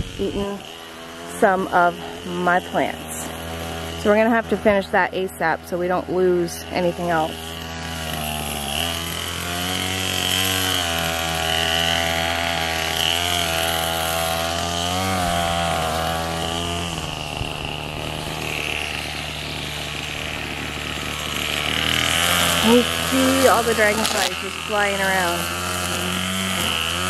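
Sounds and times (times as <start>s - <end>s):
string trimmer engine revving: 0.0s - 27.0s.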